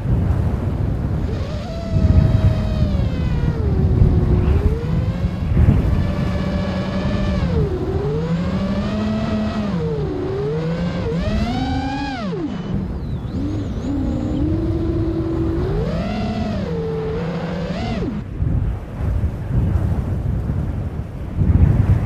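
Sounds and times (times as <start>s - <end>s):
drone motors whining: 0.0s - 18.4s
wind rushing on microphone: 0.0s - 22.0s.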